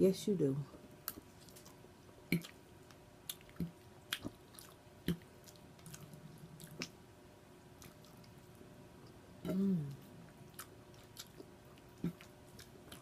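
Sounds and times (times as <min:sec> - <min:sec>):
faint low hum: 0:00.0 - 0:13.0
person chewing food: 0:00.9 - 0:13.0
lip smacks: 0:01.0 - 0:07.0, 0:07.8 - 0:13.0.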